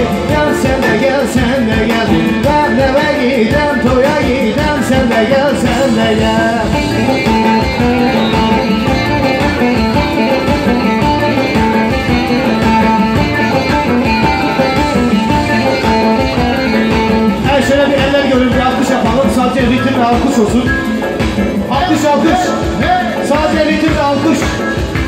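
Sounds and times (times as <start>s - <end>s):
dance music over sound system: 0.0s - 25.0s.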